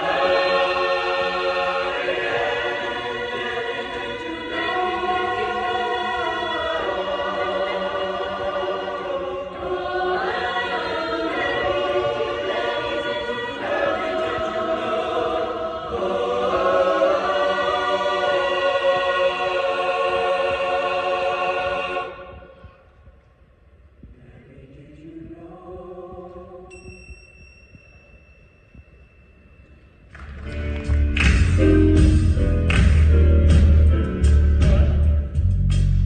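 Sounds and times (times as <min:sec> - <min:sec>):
choir singing held chords: 0:00.0 - 0:22.9, 0:24.1 - 0:26.9, 0:31.4 - 0:35.8.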